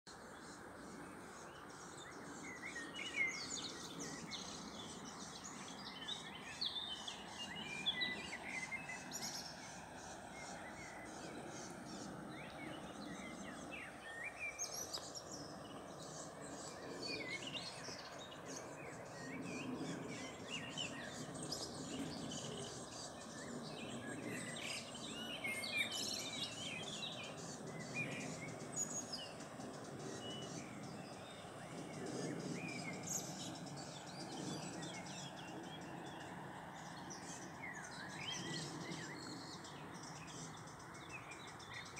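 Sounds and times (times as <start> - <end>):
small birds chirping: 0.1 - 41.9.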